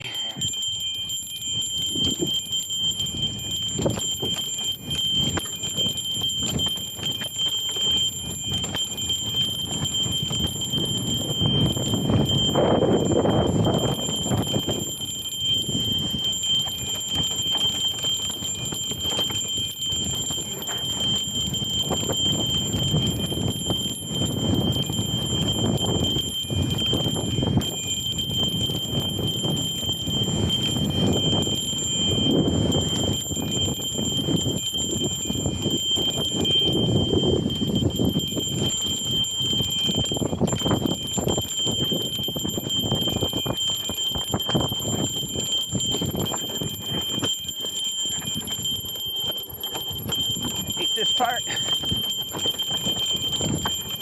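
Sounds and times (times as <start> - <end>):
chain and frame rattling: 0.0 - 54.0.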